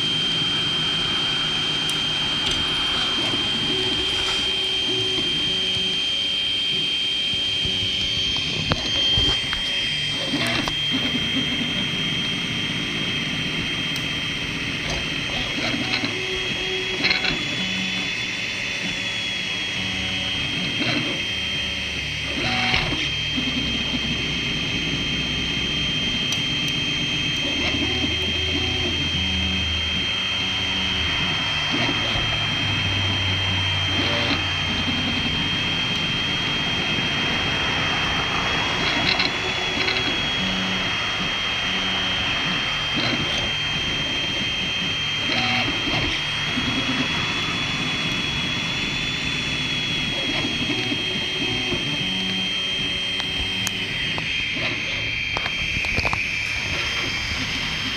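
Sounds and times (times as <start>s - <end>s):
constant high-pitched whine: 0.0s - 57.9s
stepper motors humming and whining: 0.0s - 57.9s.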